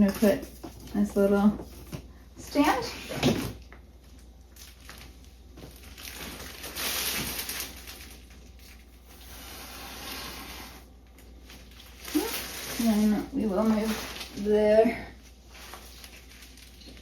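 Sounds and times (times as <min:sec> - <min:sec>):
rustling and crinkling handling: 0:00.0 - 0:17.0.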